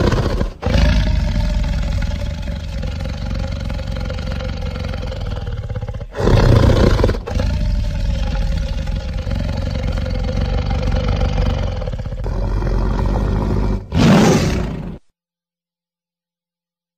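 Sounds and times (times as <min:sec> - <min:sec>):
dinosaur roar: 0:00.0 - 0:15.0
low rumbling growl: 0:00.0 - 0:15.0.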